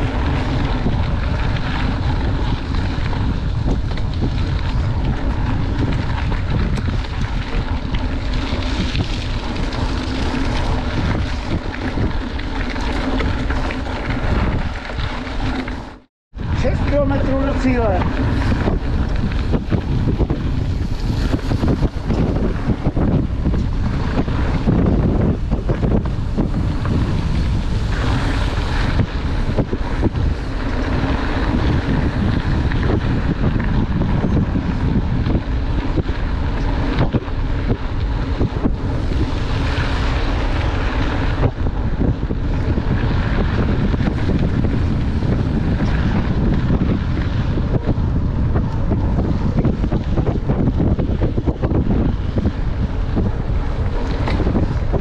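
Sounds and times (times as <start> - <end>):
tyres rolling over gravel: 0.0 - 55.0
wind buffeting microphone: 0.0 - 55.0.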